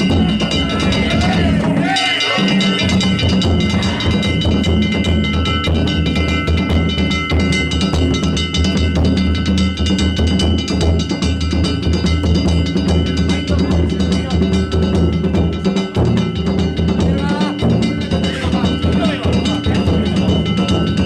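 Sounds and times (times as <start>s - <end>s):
small hand gongs ringing: 0.0s - 21.0s
taiko drums beating: 0.0s - 21.0s.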